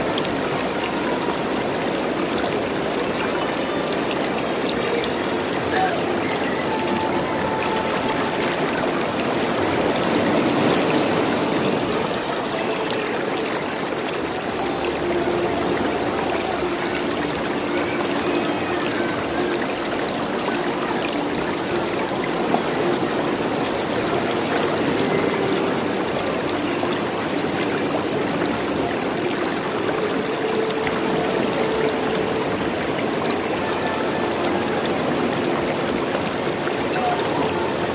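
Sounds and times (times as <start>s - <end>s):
stream water rushing: 0.0s - 37.9s
water gurgling: 0.0s - 37.9s.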